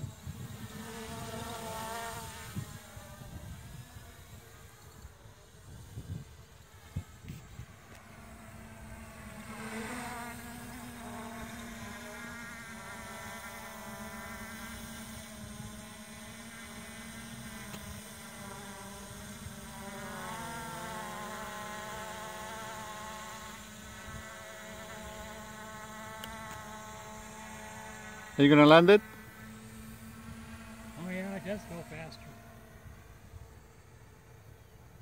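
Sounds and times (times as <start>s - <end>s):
drone propellers buzzing: 0.0s - 35.0s.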